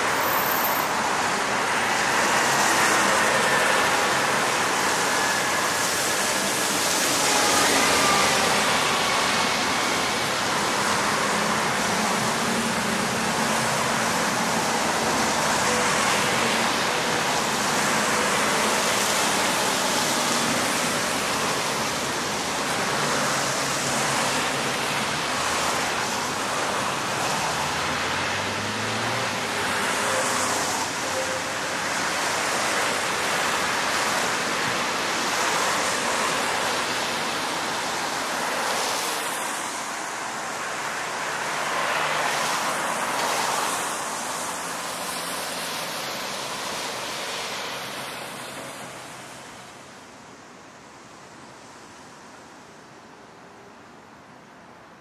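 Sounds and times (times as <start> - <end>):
cars passing: 0.0 - 50.1
tyres hissing on wet road: 0.0 - 55.0.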